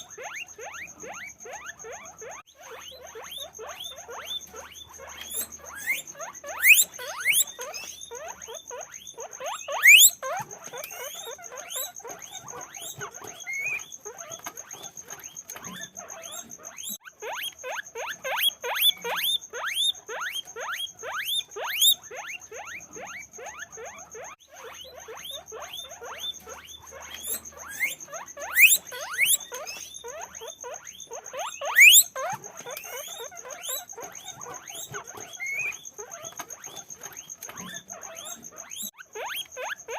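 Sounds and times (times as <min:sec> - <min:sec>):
guinea pigs squeaking: 0:00.0 - 0:39.9.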